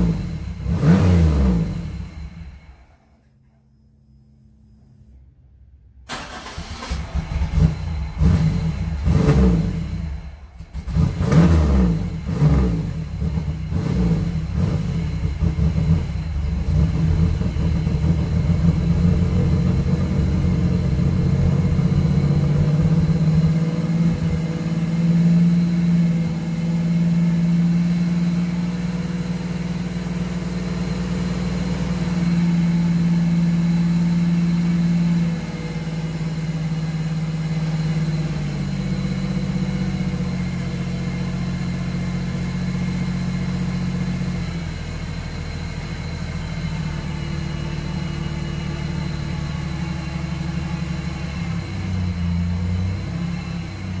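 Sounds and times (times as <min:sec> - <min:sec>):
car engine revving and idling: 0:00.0 - 0:05.2, 0:05.9 - 0:54.0.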